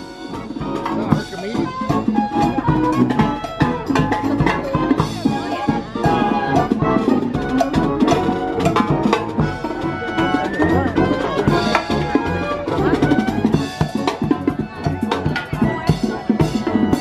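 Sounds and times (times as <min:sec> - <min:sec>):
band playing up-tempo music: 0:00.0 - 0:17.0
snare and bass drum beating: 0:00.0 - 0:17.0.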